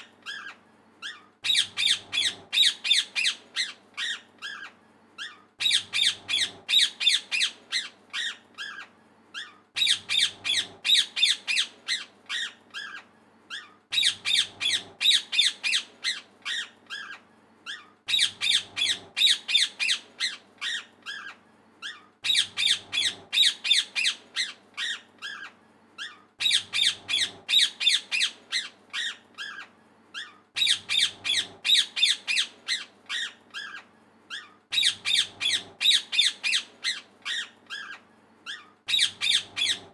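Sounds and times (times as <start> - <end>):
parrot chirping: 0.0 - 39.9.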